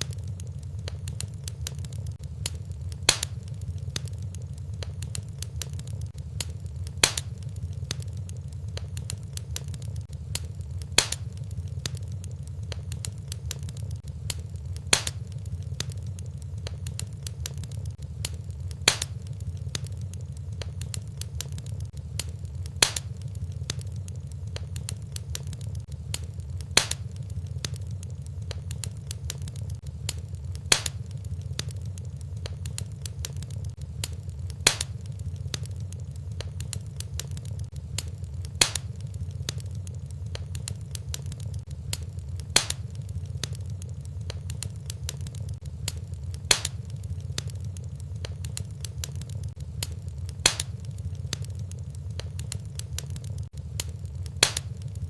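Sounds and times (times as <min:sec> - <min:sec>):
fire popping: 0:00.0 - 0:55.0
low rumble of fire: 0:00.0 - 0:55.0
wood fire crackling: 0:00.0 - 0:55.0.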